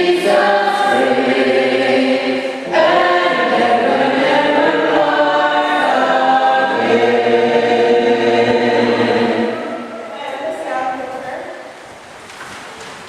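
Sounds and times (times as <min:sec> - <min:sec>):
choir singing: 0:00.0 - 0:10.6.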